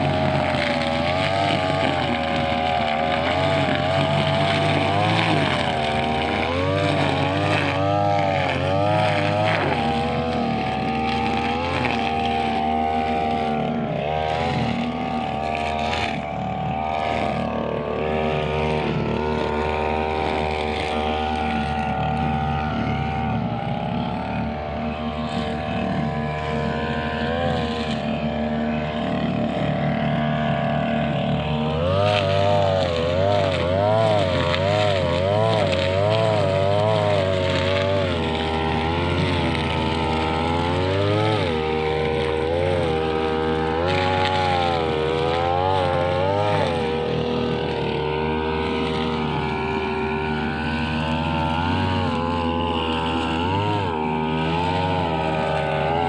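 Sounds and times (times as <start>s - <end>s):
brushcutter engine cutting grass: 0.0s - 56.0s.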